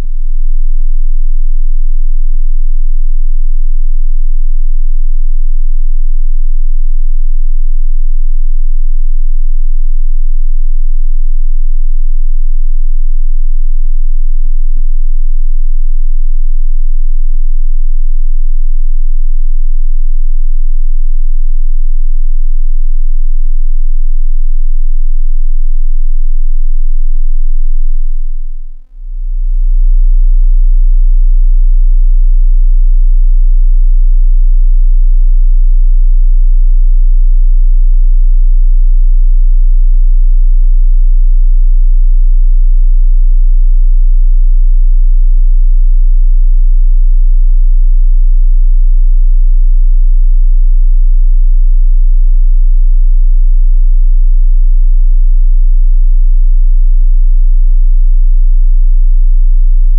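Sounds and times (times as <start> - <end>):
low sine-wave test tone: 0.0 - 59.9.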